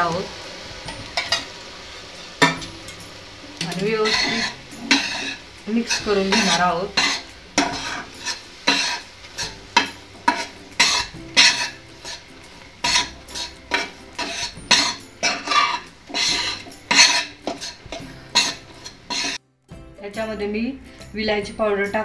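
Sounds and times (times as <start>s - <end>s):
metal spatula scraping frying pan: 0.0s - 19.4s.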